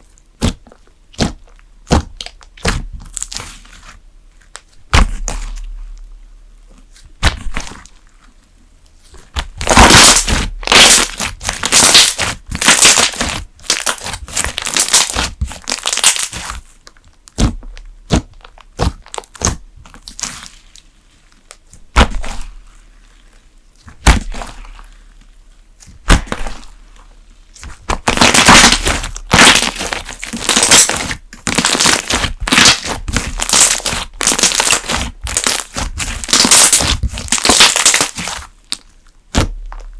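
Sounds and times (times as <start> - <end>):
slime popping and crackling: 0.0 - 6.1, 9.3 - 22.7, 23.8 - 26.8, 27.5 - 39.9.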